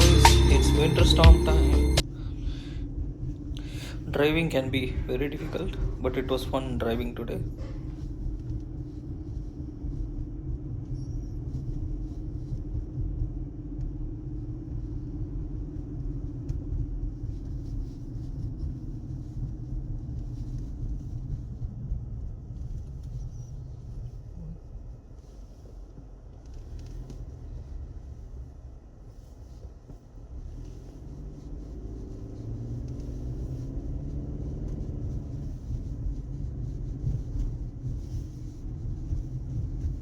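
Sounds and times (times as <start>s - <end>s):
car road and engine rumble: 0.0s - 40.0s.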